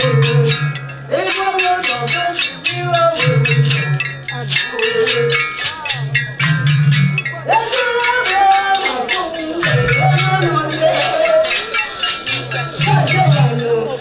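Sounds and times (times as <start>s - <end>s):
fast percussion strokes: 0.0s - 14.0s
voices singing: 0.0s - 14.0s.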